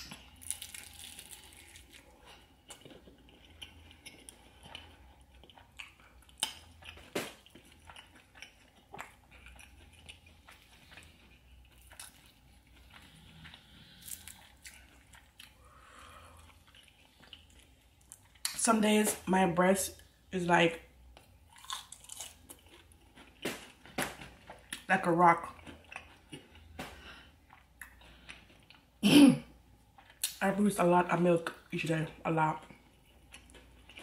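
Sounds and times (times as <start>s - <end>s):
chewing with wet smacks and crunches: 0.0s - 18.6s, 21.1s - 29.0s, 29.8s - 30.6s, 31.4s - 34.0s.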